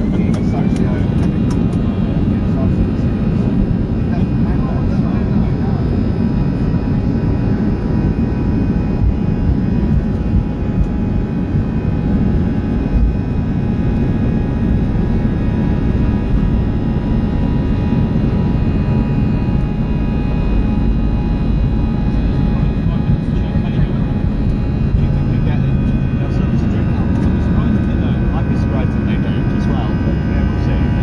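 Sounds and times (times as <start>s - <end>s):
jet engine rumble in cabin: 0.0s - 31.0s.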